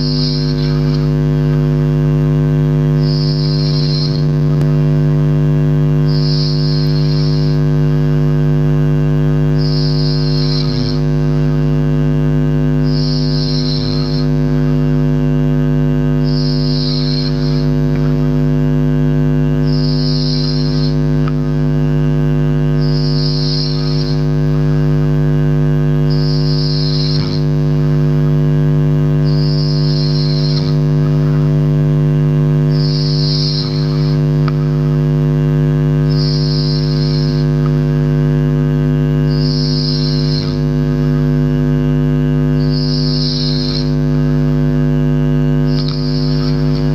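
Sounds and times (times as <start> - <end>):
loud steady hum: 0.0 - 46.9.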